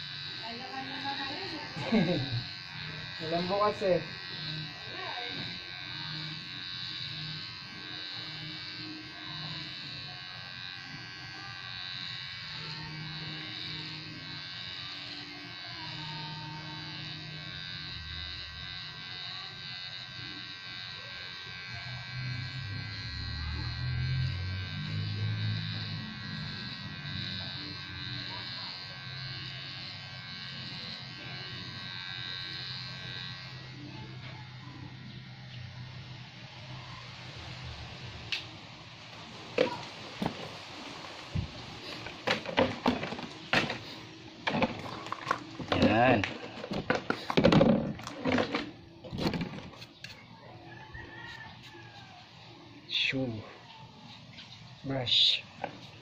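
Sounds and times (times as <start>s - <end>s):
electric hair clipper buzzing: 0.0s - 56.0s.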